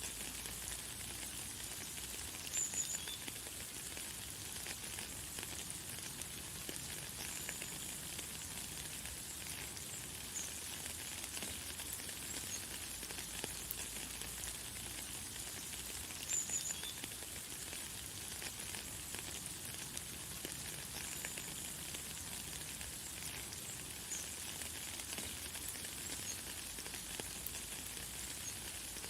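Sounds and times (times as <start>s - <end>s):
fine rain pattering: 0.0s - 29.0s.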